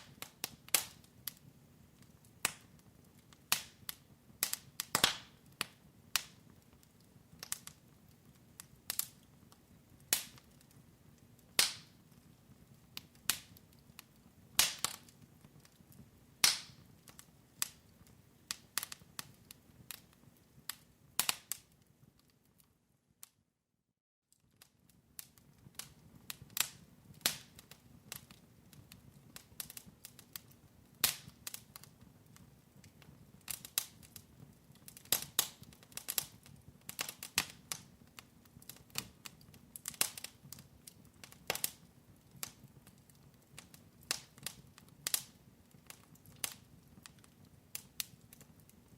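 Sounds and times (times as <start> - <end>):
fire pops and snaps: 0.0 - 23.4, 24.3 - 48.9
wood fire crackling: 0.0 - 23.4, 24.3 - 48.9.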